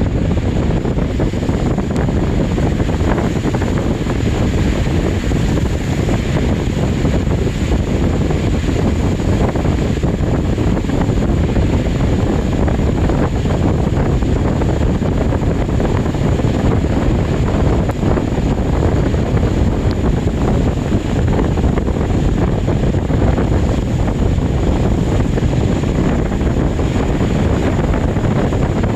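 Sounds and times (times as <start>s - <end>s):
sea waves washing: 0.0s - 28.9s
wind buffeting microphone: 0.0s - 28.9s.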